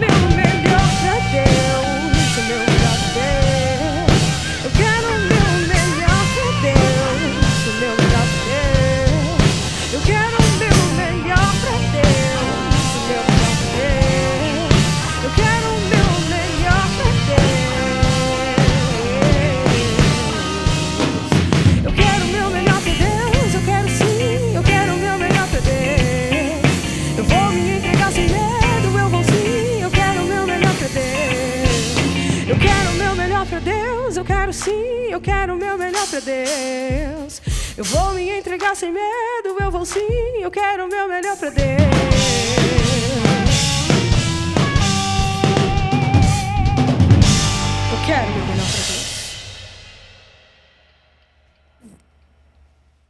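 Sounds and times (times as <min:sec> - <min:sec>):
pitch-bending lead melody: 0:00.0 - 0:35.7, 0:41.7 - 0:49.5
bass guitar: 0:00.0 - 0:36.2, 0:41.6 - 0:49.9
pop-rock band playing: 0:00.0 - 0:50.3
drum kit beat: 0:00.0 - 0:52.0.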